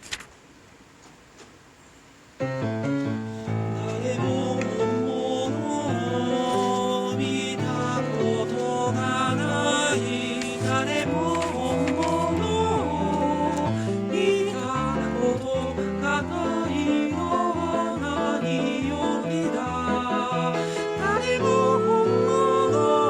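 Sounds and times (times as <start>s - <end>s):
multitracked singing: 3.4s - 23.0s.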